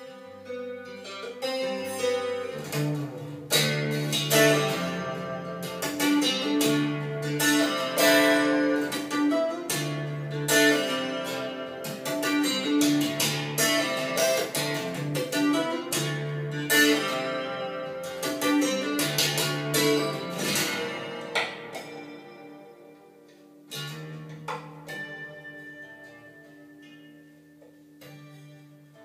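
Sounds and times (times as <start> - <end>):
plucked-string music through speakers: 0.0 - 29.0.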